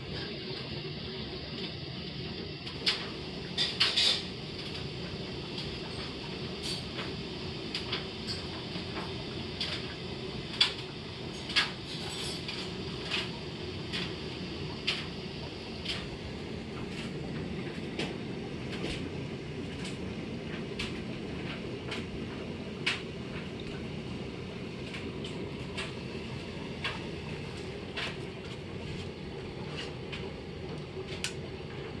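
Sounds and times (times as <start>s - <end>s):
aquarium filter humming: 0.0s - 32.0s.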